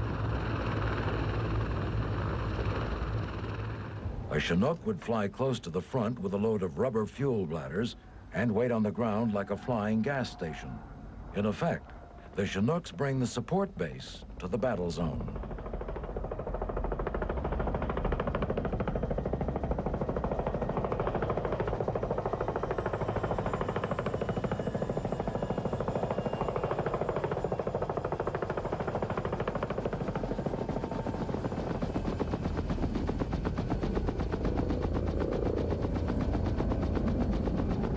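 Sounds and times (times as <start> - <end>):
helicopter rotor blades chopping: 0.0 - 10.7, 11.4 - 37.9.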